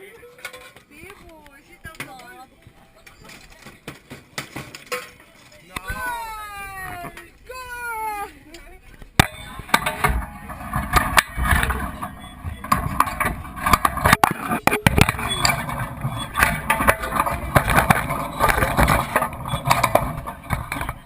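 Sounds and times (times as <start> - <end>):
players' voices: 0.0 - 21.0.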